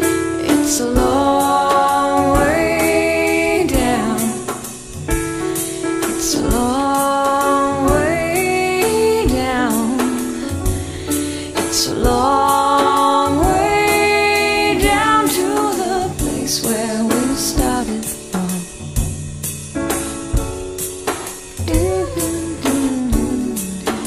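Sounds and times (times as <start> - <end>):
pop song with singing: 0.0 - 19.1, 21.6 - 24.0.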